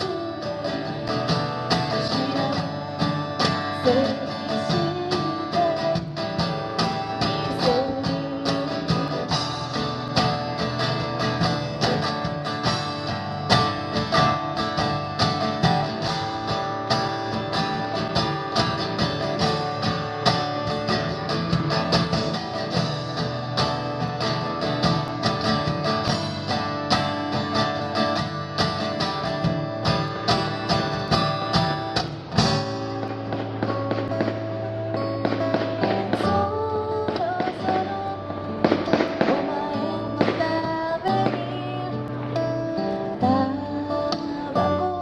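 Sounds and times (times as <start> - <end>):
guitar strumming: 0.0 - 45.0.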